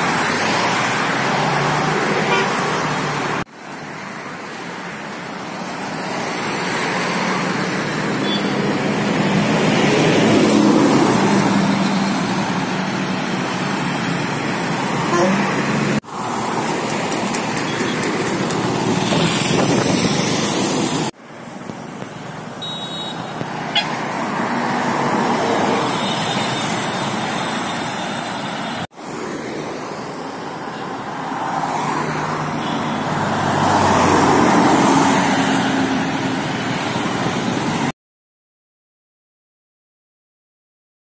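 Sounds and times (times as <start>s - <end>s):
highway traffic passing: 0.0s - 38.0s.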